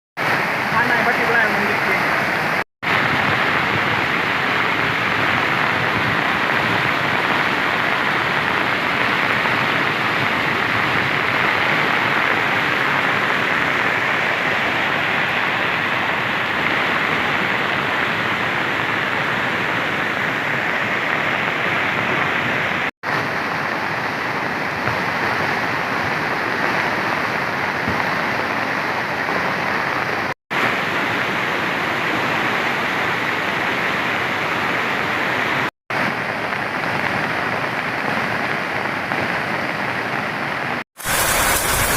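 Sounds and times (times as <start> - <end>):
rushing rain water: 0.2 - 41.9.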